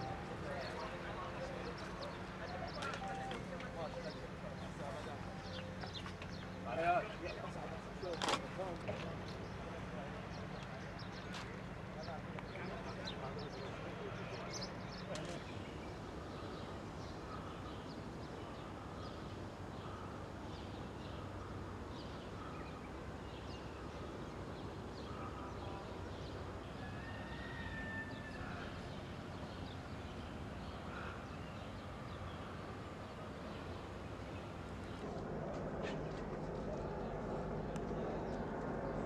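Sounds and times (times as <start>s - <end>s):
small birds chirping: 0.0s - 39.0s
steady background hum: 0.0s - 39.0s.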